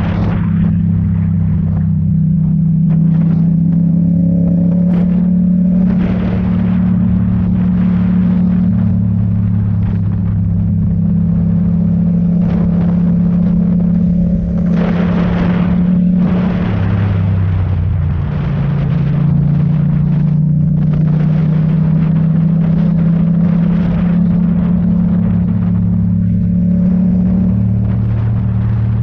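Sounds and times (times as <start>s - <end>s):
road and wind noise: 0.0s - 29.0s
vehicle engine droning: 0.0s - 29.0s.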